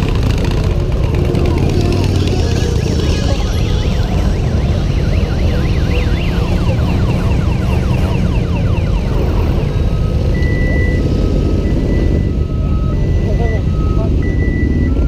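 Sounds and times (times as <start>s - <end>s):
motorcycle engines running: 0.0s - 15.0s
electronic siren sweeping: 0.2s - 15.0s.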